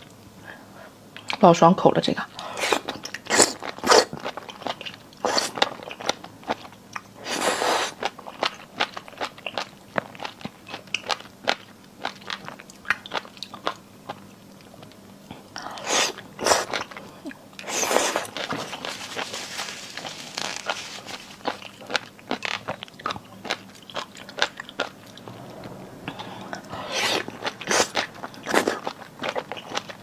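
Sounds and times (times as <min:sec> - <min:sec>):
crunchy chewing: 0:02.6 - 0:25.6, 0:26.2 - 0:30.0.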